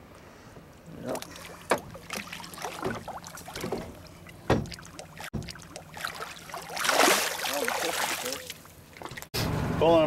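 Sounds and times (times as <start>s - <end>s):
fish splashing in water: 1.2s - 9.3s.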